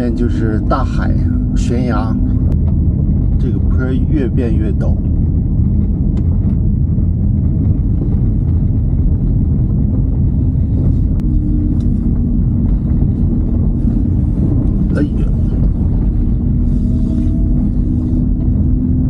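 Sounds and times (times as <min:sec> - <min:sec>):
car engine running: 0:00.0 - 0:19.0
faint steady hum: 0:00.0 - 0:19.0.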